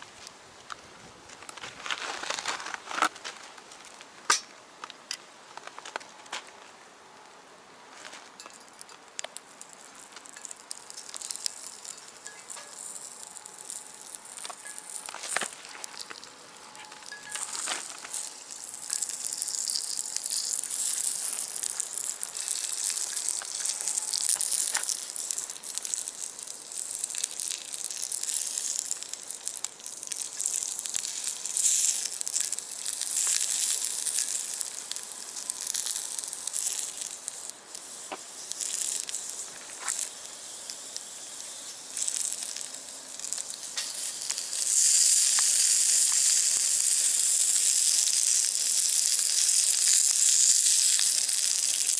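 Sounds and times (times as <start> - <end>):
wood fire crackling: 0.0 - 51.9
sizzling hiss in skillet: 8.6 - 51.9.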